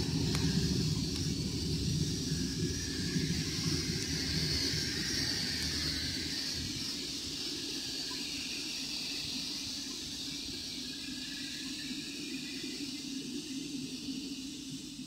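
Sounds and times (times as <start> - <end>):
distant jet engine hiss and whine: 0.0 - 15.0.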